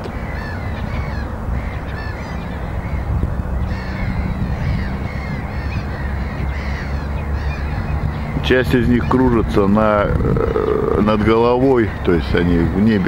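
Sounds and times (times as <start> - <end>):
gulls calling: 0.0 - 13.0
steady low rumble: 0.0 - 13.0.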